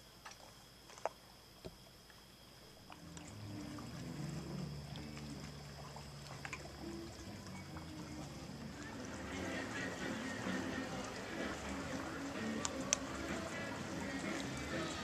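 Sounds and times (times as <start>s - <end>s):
faint distant music with bass: 2.4s - 15.0s.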